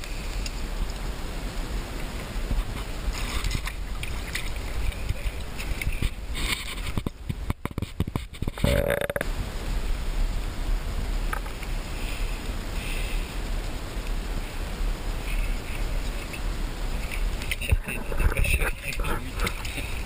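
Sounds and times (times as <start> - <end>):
flowing river water: 0.0 - 20.0
wind on microphone: 0.0 - 20.0.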